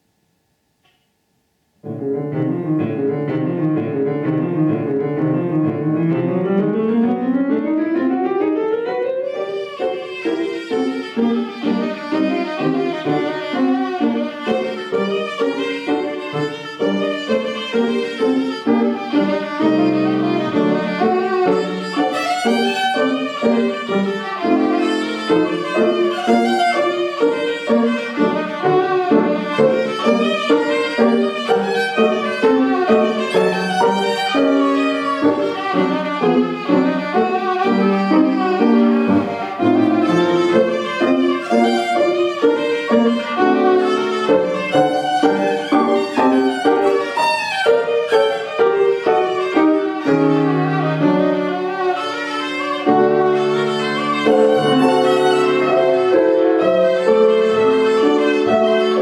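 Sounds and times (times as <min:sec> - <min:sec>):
piano accompaniment: 0:01.8 - 0:59.0
violin playing: 0:02.2 - 0:59.0.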